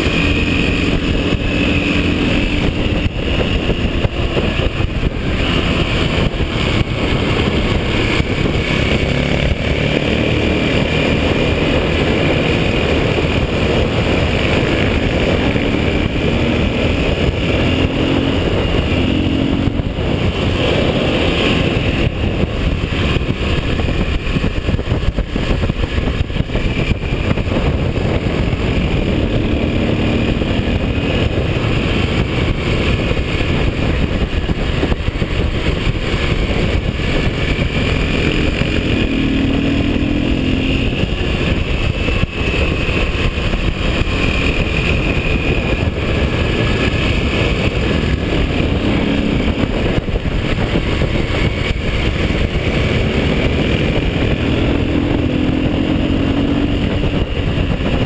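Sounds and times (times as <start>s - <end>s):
heavy wind buffeting: 0.0s - 58.0s
motorcycle engine running: 0.0s - 58.0s.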